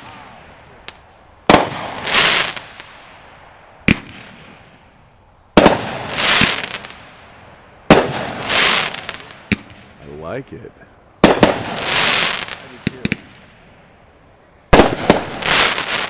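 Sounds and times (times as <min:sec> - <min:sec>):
firework bangs with hiss: 0:00.0 - 0:10.1, 0:11.2 - 0:16.0
firework crack: 0:00.0 - 0:16.0.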